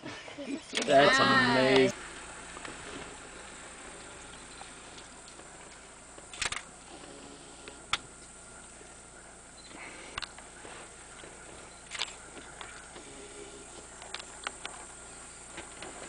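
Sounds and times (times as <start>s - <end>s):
faint hiss: 0.0s - 16.0s.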